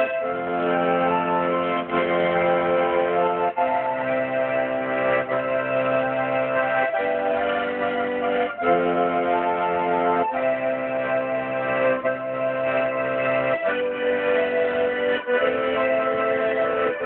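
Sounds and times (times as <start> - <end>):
accordion playing chords: 0.0 - 17.0.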